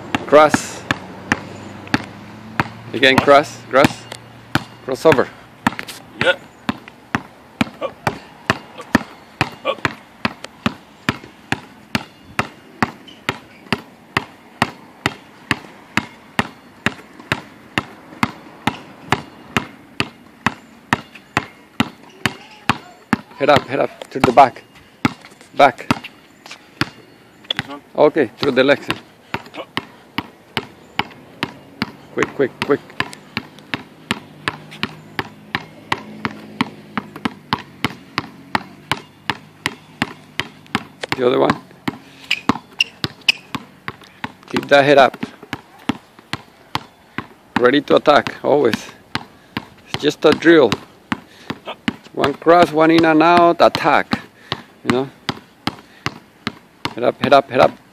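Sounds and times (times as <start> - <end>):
basketball bouncing on hard court: 0.1 - 26.1, 26.8 - 27.8, 28.4 - 57.8.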